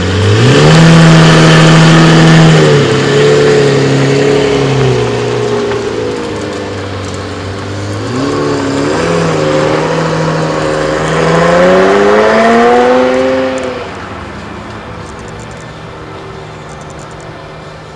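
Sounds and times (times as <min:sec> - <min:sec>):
sports car engine accelerating: 0:00.0 - 0:17.9.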